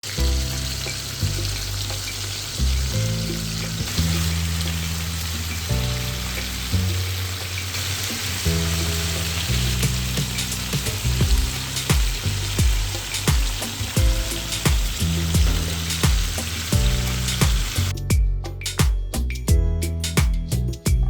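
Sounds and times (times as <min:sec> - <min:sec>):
chicken frying in hot oil: 0:00.0 - 0:18.0
background music with low notes: 0:00.0 - 0:21.0.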